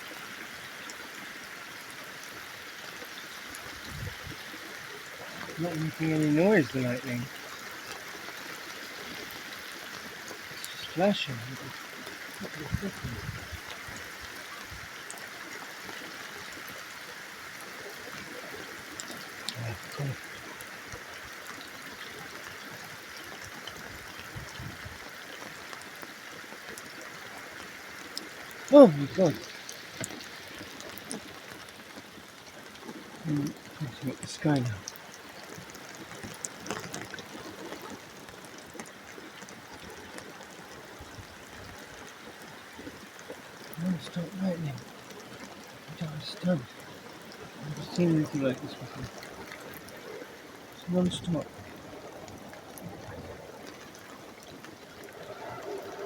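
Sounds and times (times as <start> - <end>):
steady rain falling: 0.0 - 56.0
water trickling: 0.0 - 56.0.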